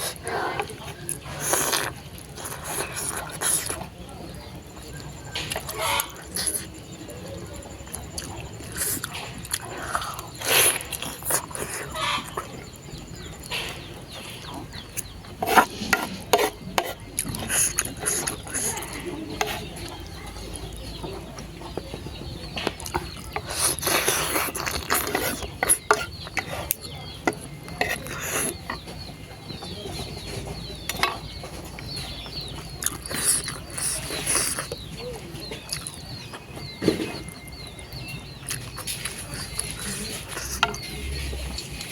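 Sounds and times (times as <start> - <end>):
slurping and chewing noodles: 0.0 - 4.0, 4.6 - 21.0, 22.6 - 35.0, 35.6 - 41.9.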